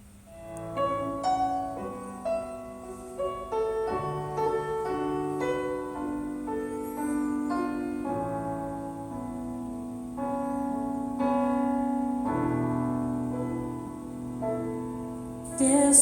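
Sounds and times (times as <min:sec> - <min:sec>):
slow solo piano through speakers: 0:00.0 - 0:16.0.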